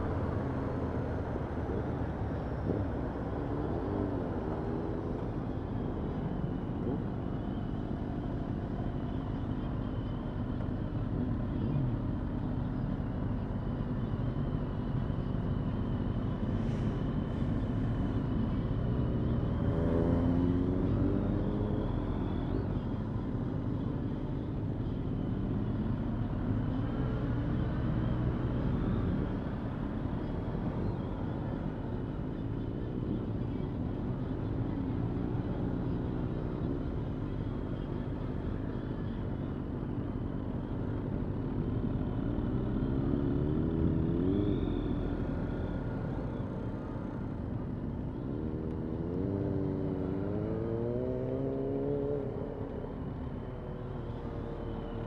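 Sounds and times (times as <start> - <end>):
motorcycle engines running: 0.0 - 55.0
road and wind noise: 0.0 - 55.0.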